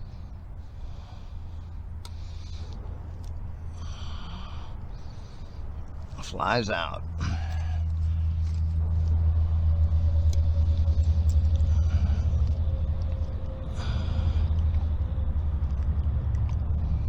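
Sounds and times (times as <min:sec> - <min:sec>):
faint steady hum: 0:00.0 - 0:17.0
fluttering low rumble: 0:00.0 - 0:17.0.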